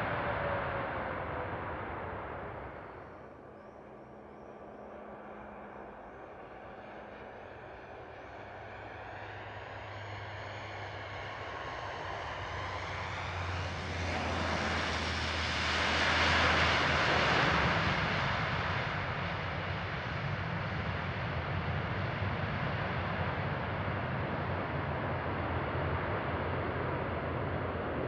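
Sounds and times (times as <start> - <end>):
aircraft engine rushing: 0.0 - 28.0
propeller drone: 0.0 - 28.0.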